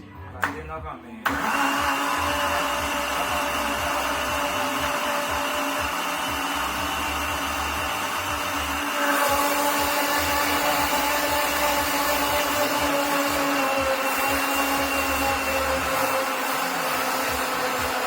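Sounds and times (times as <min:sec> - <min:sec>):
kitchen blender running: 0:01.3 - 0:18.0.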